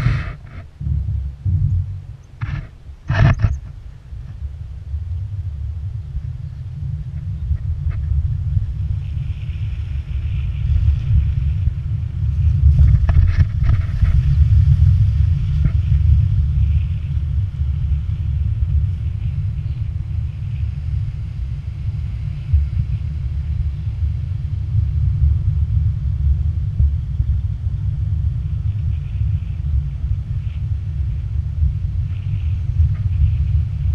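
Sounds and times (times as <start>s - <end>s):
road vibration rumble: 0.0s - 33.9s
wind buffeting: 0.0s - 33.9s.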